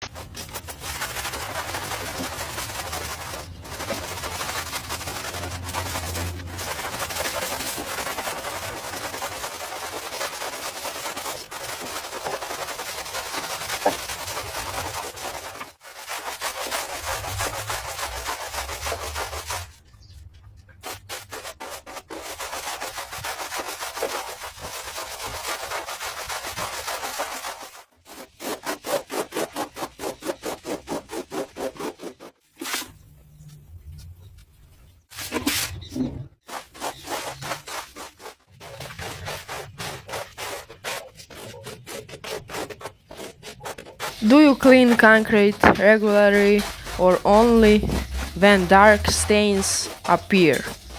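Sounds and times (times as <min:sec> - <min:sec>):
brush scrubbing concrete: 0:00.0 - 0:19.8, 0:20.9 - 0:32.3, 0:36.5 - 0:50.9.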